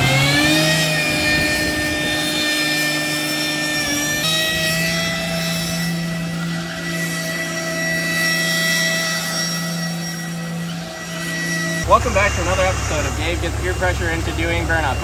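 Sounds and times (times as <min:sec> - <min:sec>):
diesel engine at high revs: 0:00.0 - 0:15.0
high whine: 0:00.0 - 0:15.0.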